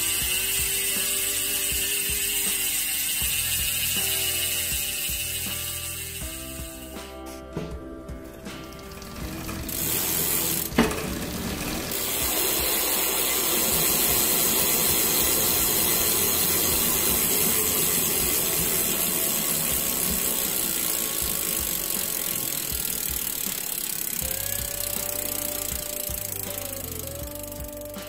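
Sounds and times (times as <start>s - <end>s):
bicycle hub freewheeling buzz: 0.0s - 7.1s, 8.6s - 28.0s.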